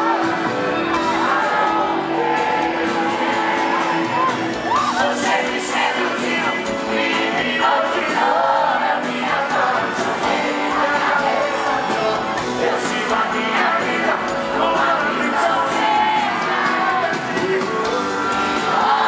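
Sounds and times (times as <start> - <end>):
live country band music: 0.0 - 19.0
person singing: 0.0 - 19.0.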